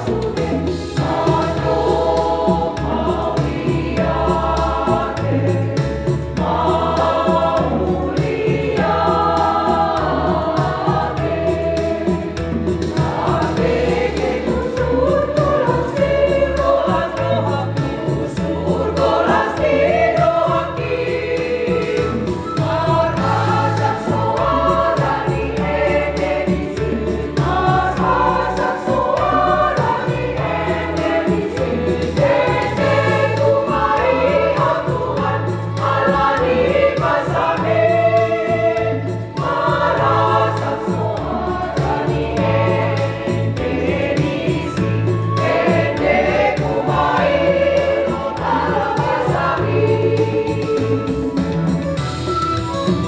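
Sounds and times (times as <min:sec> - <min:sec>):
women's choir singing a hymn: 0:00.0 - 0:51.8
low instrumental accompaniment: 0:00.0 - 0:53.0.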